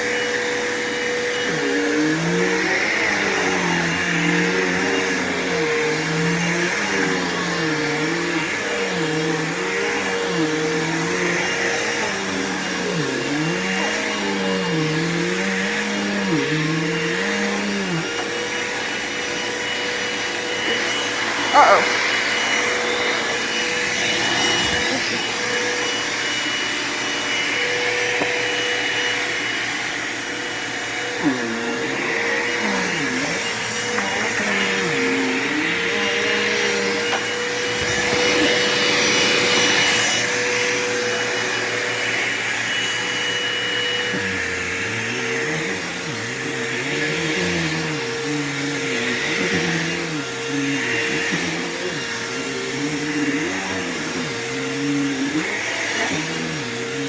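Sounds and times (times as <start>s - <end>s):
vacuum cleaner running on carpet: 0.0s - 57.0s.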